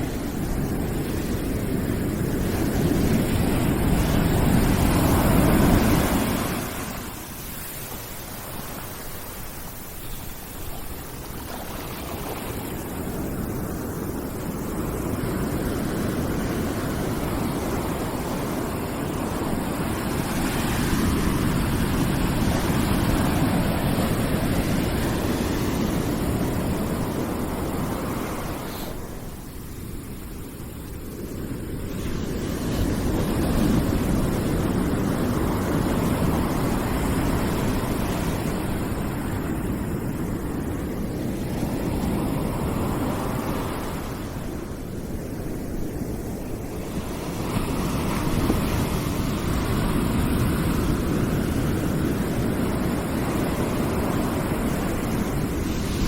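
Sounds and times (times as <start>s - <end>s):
rushing white noise: 0.0s - 56.0s.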